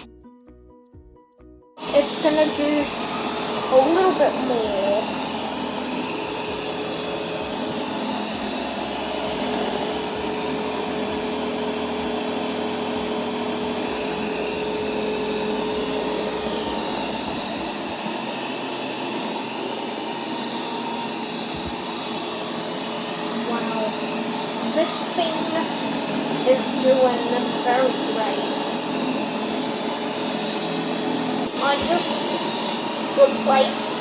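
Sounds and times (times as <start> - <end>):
robot vacuum whirring: 1.8 - 34.0.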